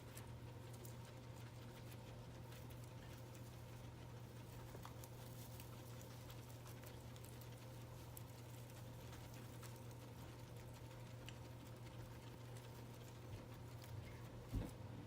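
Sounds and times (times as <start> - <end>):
guinea pigs chewing hay: 0.0 - 15.0.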